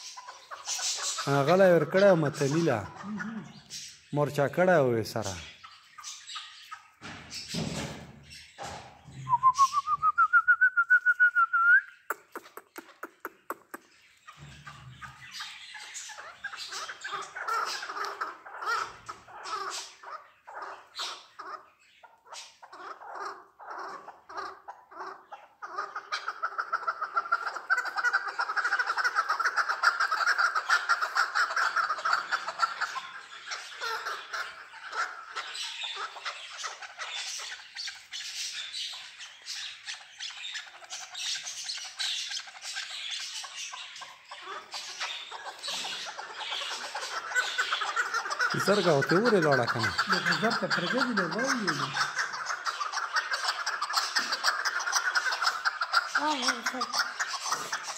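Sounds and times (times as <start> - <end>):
partridges clucking calls: 0.0 - 57.9.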